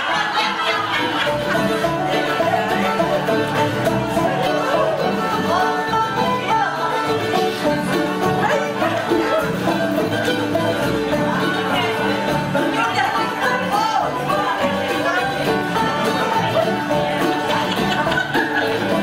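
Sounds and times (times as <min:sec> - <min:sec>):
lively dance music: 0:00.0 - 0:19.0.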